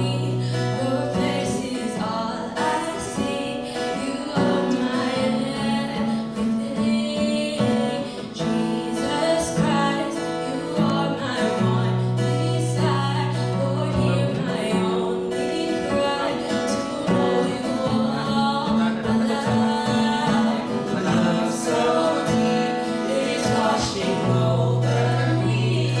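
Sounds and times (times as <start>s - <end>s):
guitar: 0.0s - 26.0s
person singing: 0.0s - 26.0s.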